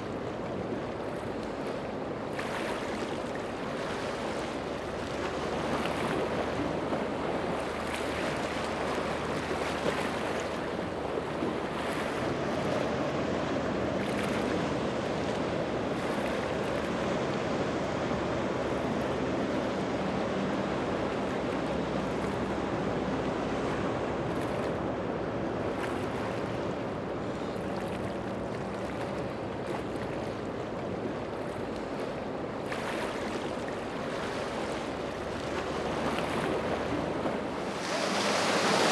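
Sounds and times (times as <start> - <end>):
boat engine drone: 0.0 - 38.9
rush of water and wind: 0.0 - 38.9.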